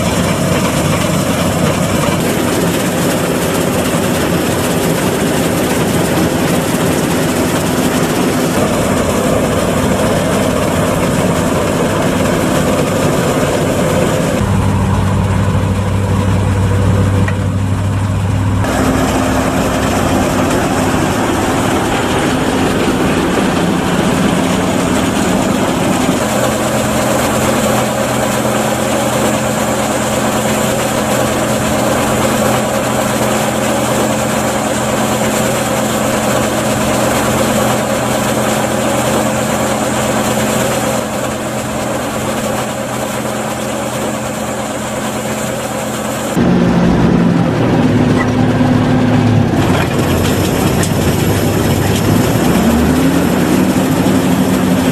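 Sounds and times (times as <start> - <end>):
combine harvester droning: 0.0 - 54.9.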